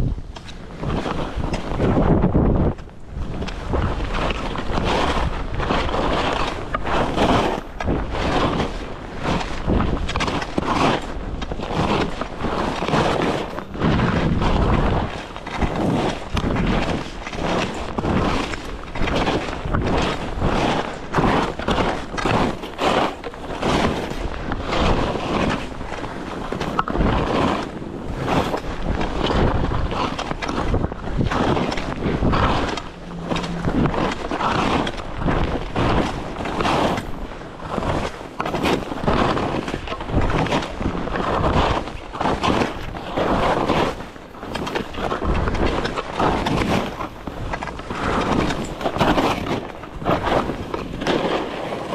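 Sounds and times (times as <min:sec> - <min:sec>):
wind buffeting microphone: 0:00.0 - 0:51.9
skis scraping on snow: 0:00.4 - 0:51.9.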